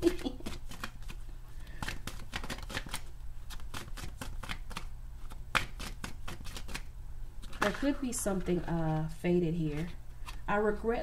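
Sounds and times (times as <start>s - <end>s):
cards being shuffled: 0.0s - 10.5s.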